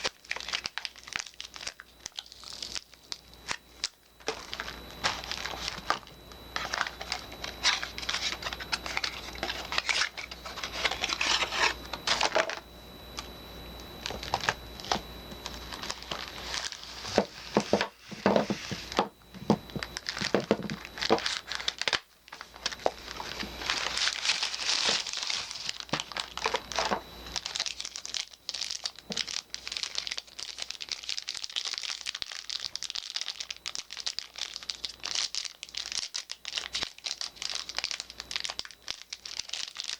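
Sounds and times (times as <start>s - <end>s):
wrappers crinkling and tearing: 0.0s - 12.6s, 14.0s - 19.0s, 19.6s - 39.9s.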